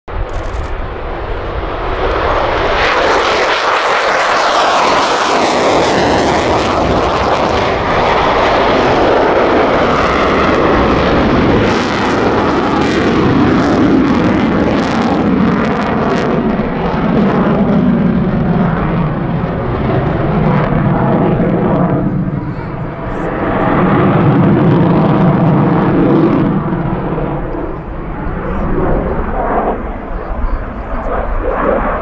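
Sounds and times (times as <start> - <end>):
jet engine passing: 0.1 - 32.0.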